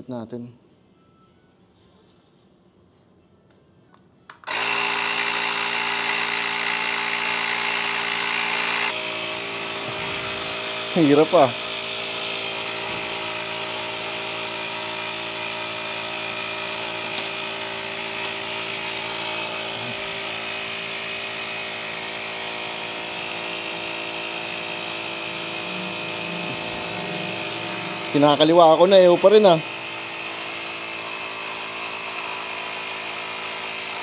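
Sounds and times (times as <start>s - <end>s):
small electric motor buzzing: 4.3s - 34.0s.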